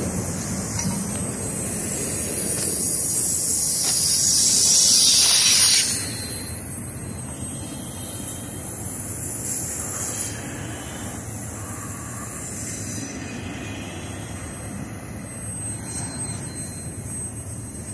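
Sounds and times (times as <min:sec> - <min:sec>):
steel wheels rolling on rails: 0:00.0 - 0:17.9.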